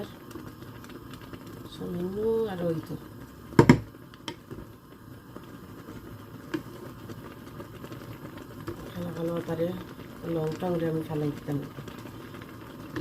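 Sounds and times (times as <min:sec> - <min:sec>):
water bubbling in a pot: 0:00.0 - 0:13.0.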